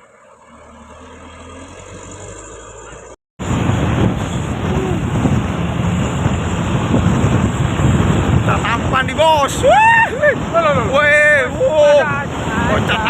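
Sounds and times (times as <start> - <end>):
rushing road noise of traffic: 0.0 - 13.0
truck engine hum: 0.0 - 13.0.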